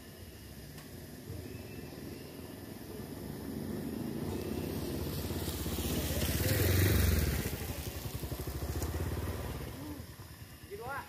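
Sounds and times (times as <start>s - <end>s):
motorcycle engine passing: 1.8s - 11.0s.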